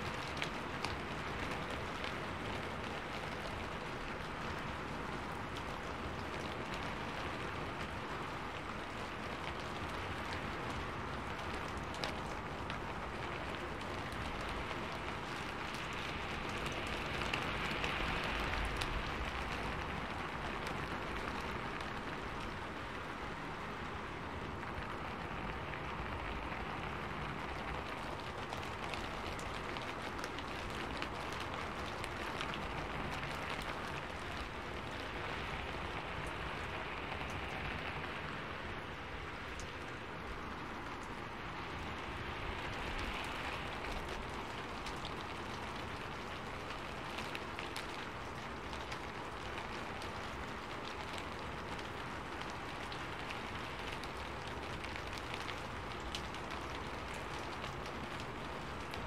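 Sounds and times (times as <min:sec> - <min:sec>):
sharp ticks of raindrops: 0:00.0 - 0:59.0
steady rain hiss: 0:00.0 - 0:59.0.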